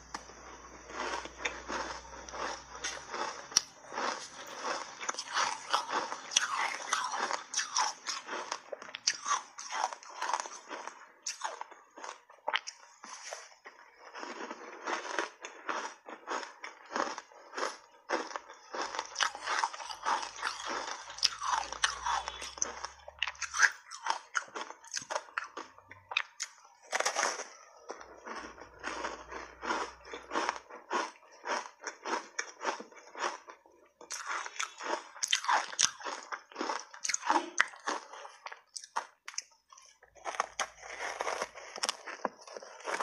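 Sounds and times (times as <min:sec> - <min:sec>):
ice crunching being chewed: 0:00.0 - 0:43.0.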